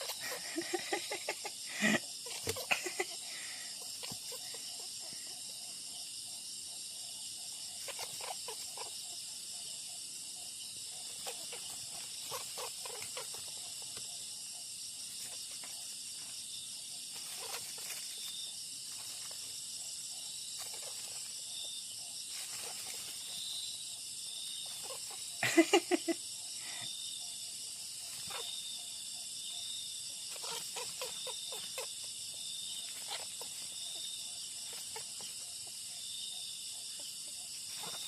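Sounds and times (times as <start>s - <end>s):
insects chirping: 0.0s - 38.0s
wild bird calls: 0.0s - 38.0s.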